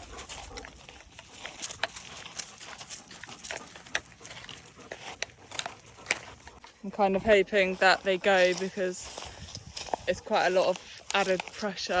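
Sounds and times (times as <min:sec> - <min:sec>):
footsteps and paws scuffing: 0:00.0 - 0:12.0.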